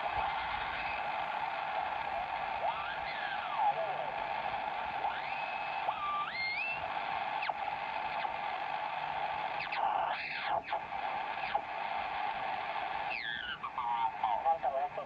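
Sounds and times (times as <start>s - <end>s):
radio heterodyne whistling tones: 0.0s - 14.6s
radio band hiss: 0.0s - 15.0s.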